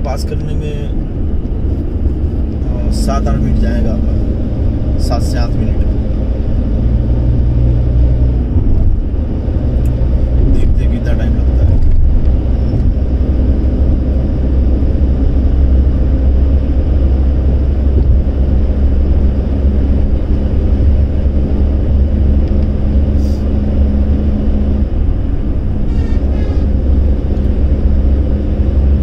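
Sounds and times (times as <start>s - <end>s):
car engine and tyre noise: 0.0s - 29.0s.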